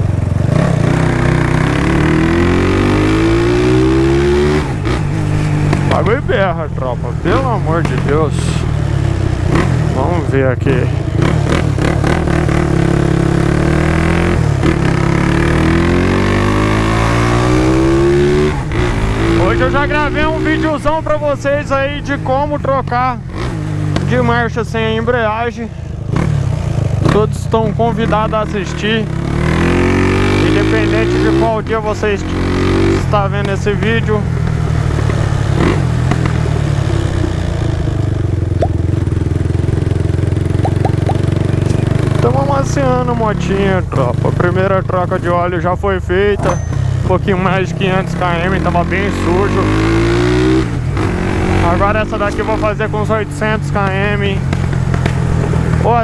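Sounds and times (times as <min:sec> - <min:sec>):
gear change: 0:00.0 - 0:56.0
motorcycle engine accelerating: 0:00.0 - 0:56.0.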